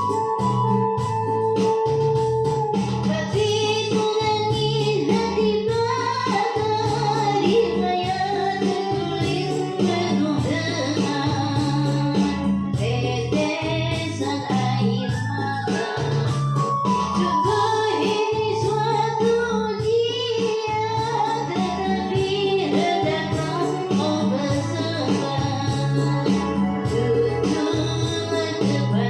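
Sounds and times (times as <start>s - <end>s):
keyboard accompaniment with beat: 0.0s - 29.0s
woman singing: 3.0s - 29.0s.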